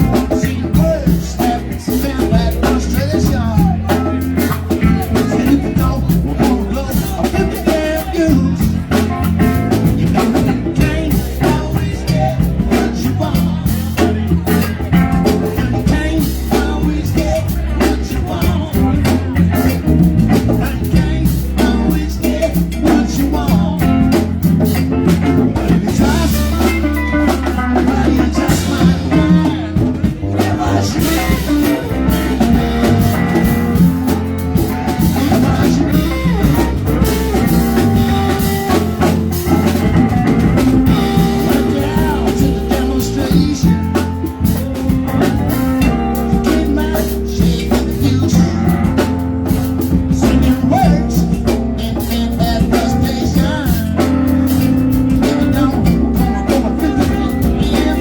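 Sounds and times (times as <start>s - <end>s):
bass guitar: 0.0s - 58.0s
drum kit: 0.0s - 58.0s
electric guitar: 0.0s - 58.0s
live band playing: 0.0s - 58.0s.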